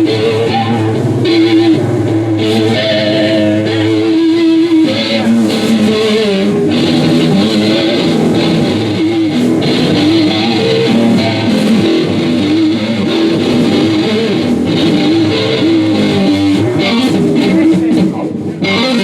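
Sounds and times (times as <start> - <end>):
bass guitar: 0.0 - 19.0
electric guitar playing: 0.0 - 19.0.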